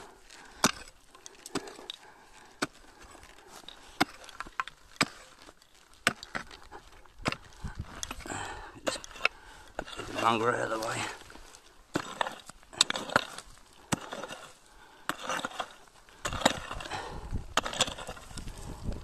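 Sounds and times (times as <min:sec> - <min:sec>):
pick striking stony ground: 0:00.0 - 0:18.6.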